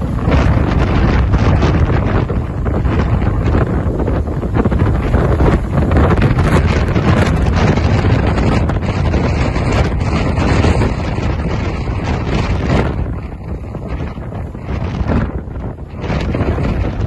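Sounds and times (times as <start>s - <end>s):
rough stormy sea: 0.0s - 17.0s
wind buffeting microphone: 0.0s - 17.0s.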